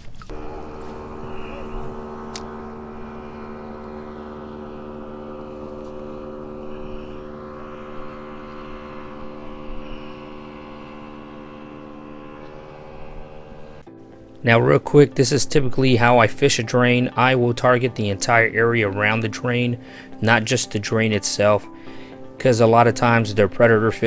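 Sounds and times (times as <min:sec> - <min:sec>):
steady engine drone: 0:00.0 - 0:24.0.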